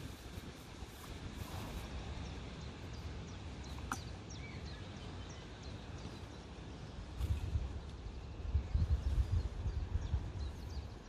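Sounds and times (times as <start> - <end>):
birds chirping: 0.0 - 11.0
wind rumbling on microphone: 0.0 - 11.0.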